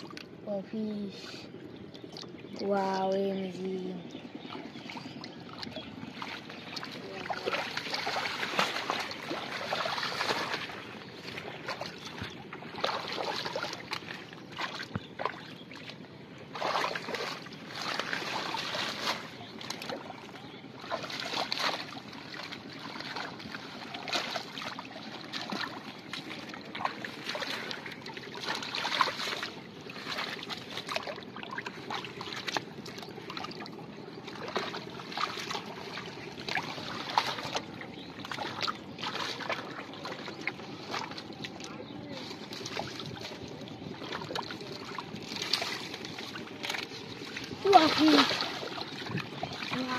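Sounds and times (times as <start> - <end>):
hands splashing in muddy water: 4.4 - 49.9.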